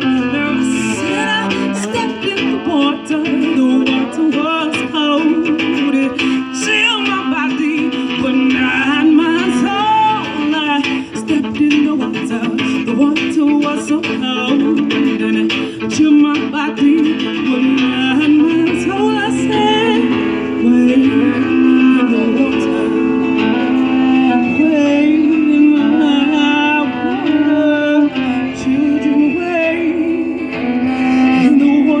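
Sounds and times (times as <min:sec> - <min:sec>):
guitar accompaniment: 0:00.0 - 0:32.0
person singing gliding notes: 0:00.0 - 0:32.0.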